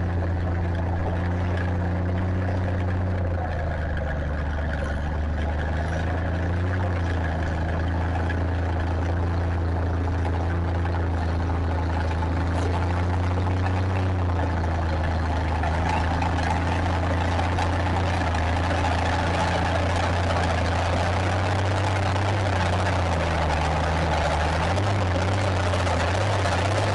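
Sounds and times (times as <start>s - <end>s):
rough noisy sound: 0.0s - 26.9s
tractor engine droning: 0.0s - 26.9s.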